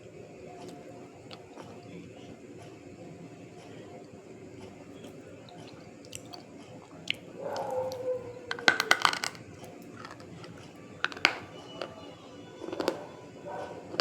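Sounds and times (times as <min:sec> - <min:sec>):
crunchy food chewing: 0:00.6 - 0:02.8, 0:04.0 - 0:14.0.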